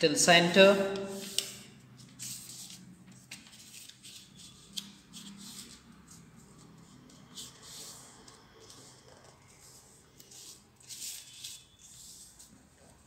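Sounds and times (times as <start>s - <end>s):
paper rustling as it is folded: 0.9s - 13.0s.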